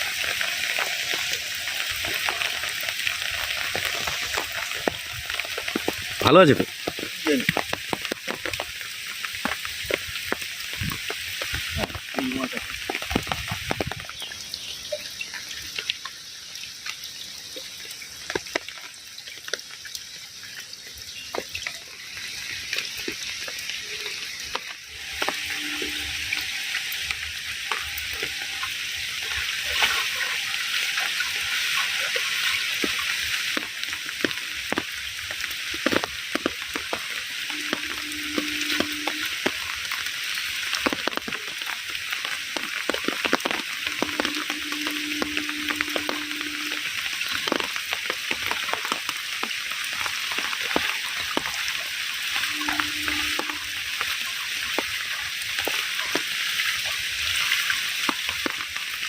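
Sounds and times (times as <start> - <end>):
oil crackling: 0.0 - 14.8, 21.1 - 59.0
food sizzling in hot oil: 0.0 - 59.0.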